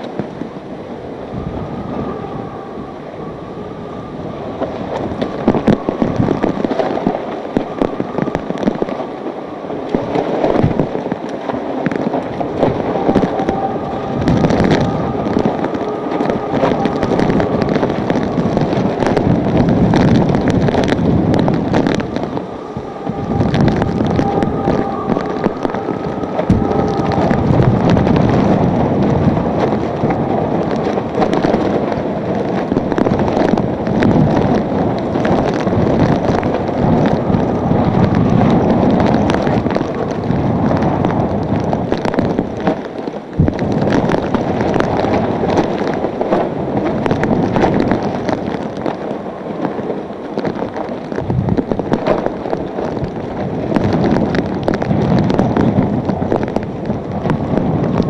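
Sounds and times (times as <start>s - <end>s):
driving rain: 0.0s - 58.0s
rain and debris ticking: 0.0s - 58.0s
strong wind booming: 0.0s - 58.0s.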